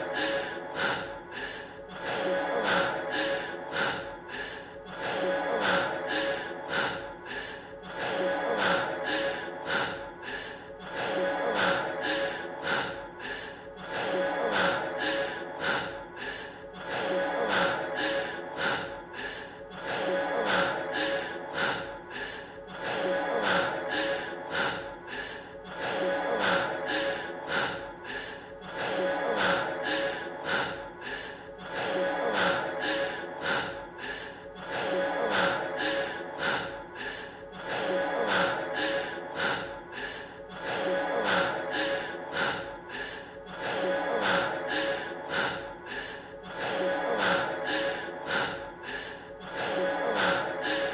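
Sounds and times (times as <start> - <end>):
man panting heavily: 0.0 - 50.9.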